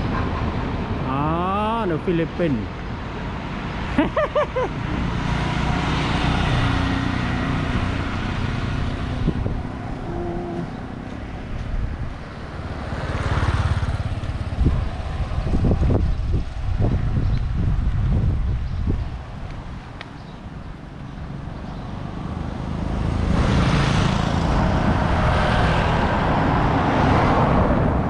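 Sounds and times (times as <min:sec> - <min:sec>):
vehicles passing on road: 0:00.0 - 0:28.0.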